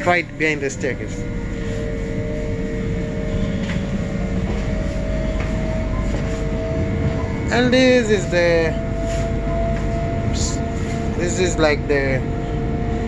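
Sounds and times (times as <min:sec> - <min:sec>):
faint steady whine: 0:00.0 - 0:13.0
train interior rumble: 0:00.0 - 0:13.0.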